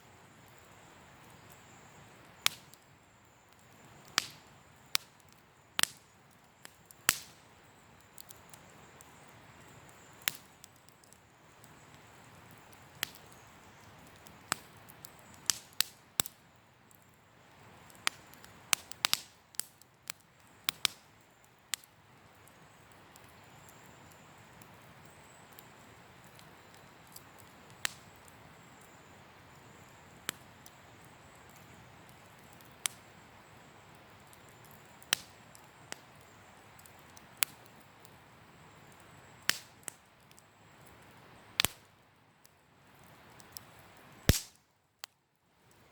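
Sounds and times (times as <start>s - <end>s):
campfire crackling and popping: 0.0s - 45.9s
steady hiss of burning: 0.0s - 45.9s.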